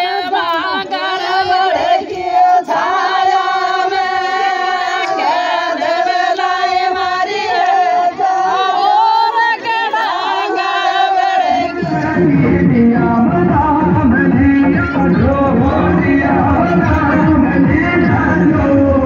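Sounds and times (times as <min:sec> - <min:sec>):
women singing folk song: 0:00.0 - 0:19.0.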